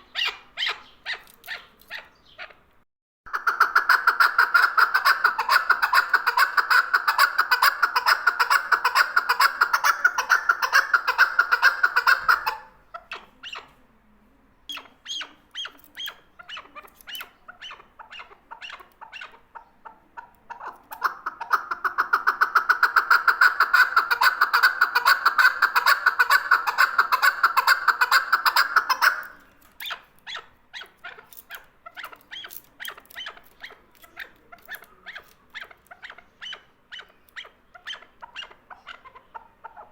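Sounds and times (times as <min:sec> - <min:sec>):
partridge chuck calls: 0:00.0 - 0:02.7, 0:03.3 - 0:13.8, 0:14.7 - 0:39.9.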